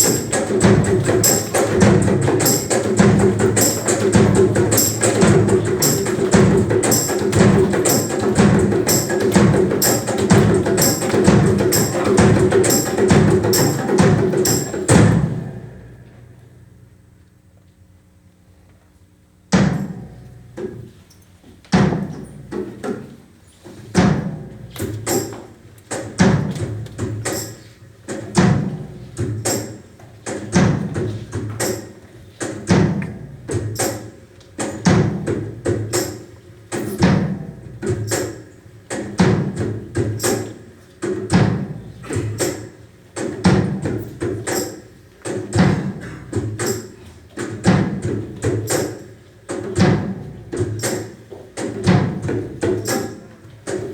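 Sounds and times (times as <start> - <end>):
percussive music with deep thuds: 0.0 - 15.9, 19.5 - 20.8, 21.7 - 23.0, 23.9 - 53.9.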